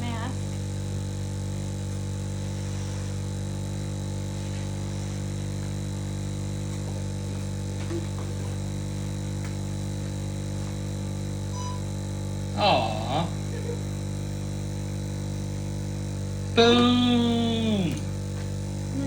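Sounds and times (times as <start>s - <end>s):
electrical hum and buzz: 0.0s - 19.0s.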